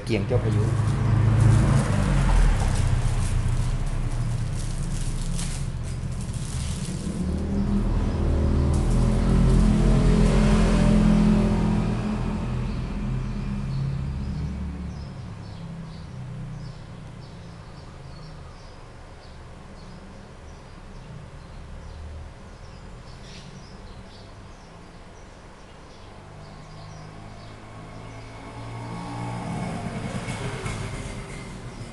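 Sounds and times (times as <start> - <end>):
passing vehicle rumble: 0.0 - 19.7, 20.3 - 31.9.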